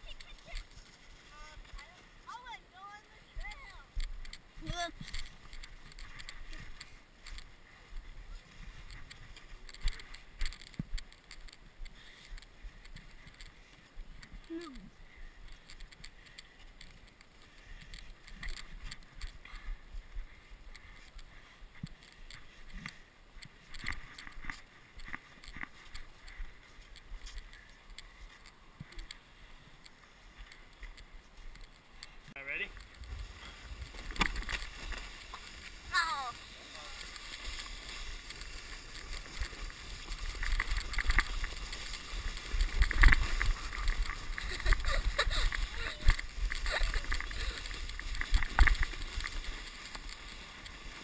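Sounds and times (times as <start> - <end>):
footsteps crunching snow: 0.0 - 14.1, 24.0 - 51.0.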